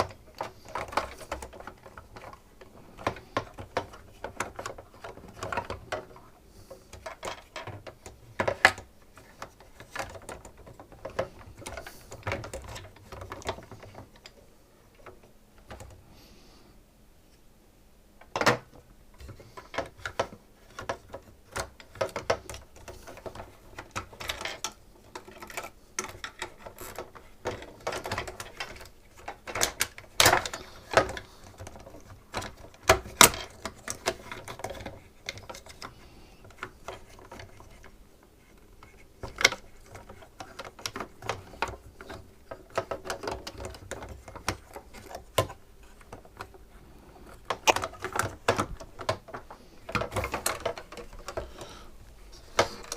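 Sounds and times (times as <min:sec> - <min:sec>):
plastic and metal parts clicking: 0:00.0 - 0:14.4, 0:15.0 - 0:16.0, 0:18.2 - 0:52.9.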